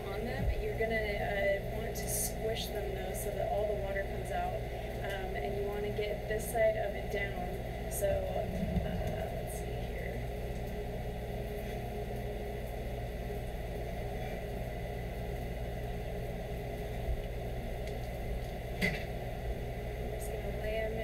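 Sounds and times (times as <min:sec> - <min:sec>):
range hood fan humming: 0:00.0 - 0:21.0.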